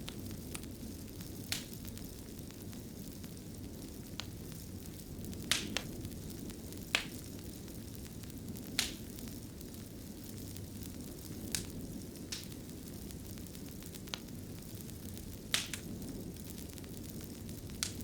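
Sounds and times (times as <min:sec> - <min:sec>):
sharp crackling pops: 0:00.0 - 0:03.3, 0:03.9 - 0:18.0
fire rumbling and hissing: 0:00.0 - 0:18.0.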